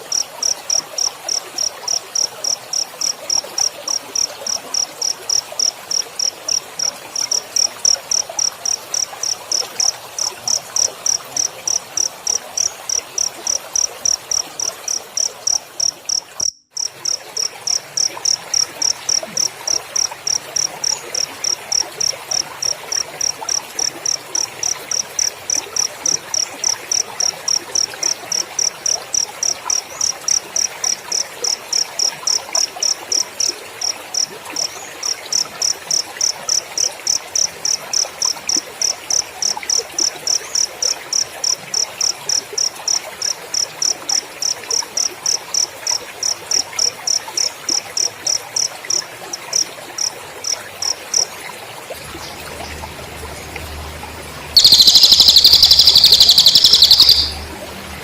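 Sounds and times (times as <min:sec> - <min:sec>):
cricket chirping: 0:00.0 - 0:51.3, 0:54.5 - 0:58.0.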